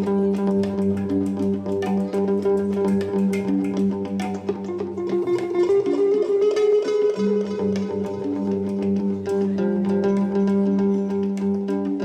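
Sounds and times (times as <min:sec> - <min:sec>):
electric guitar: 0:00.0 - 0:12.0
hang drum notes: 0:00.0 - 0:12.0.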